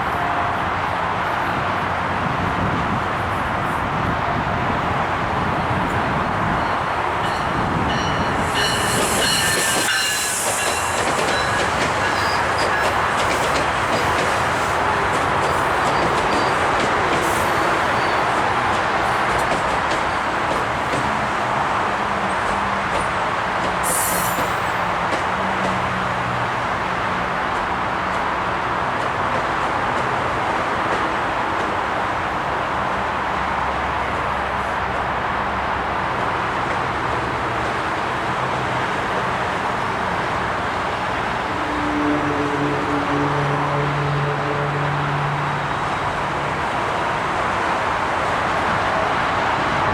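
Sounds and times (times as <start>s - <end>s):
train wheels rumbling: 1.8s - 49.9s.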